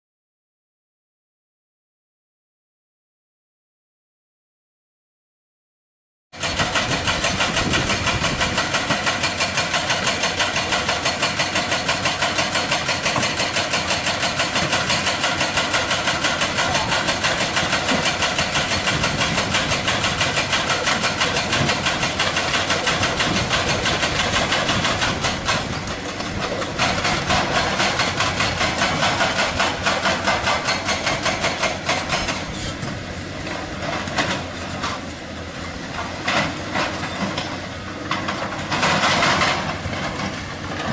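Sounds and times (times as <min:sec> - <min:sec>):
hydraulic breaker hammering rock: 0:06.4 - 0:35.1, 0:35.9 - 0:40.9
diesel engine running: 0:06.4 - 0:40.9.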